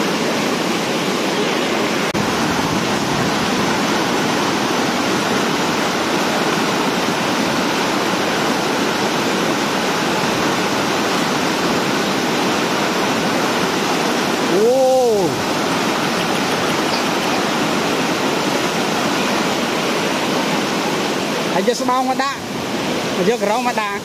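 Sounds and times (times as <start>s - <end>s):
floodwater rushing over spillway: 0.0s - 24.0s.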